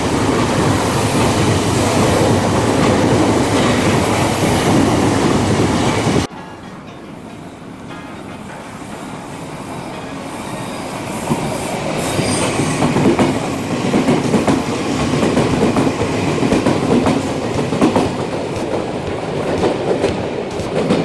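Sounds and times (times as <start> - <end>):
train wheels clicking over joints: 0.3 - 21.0.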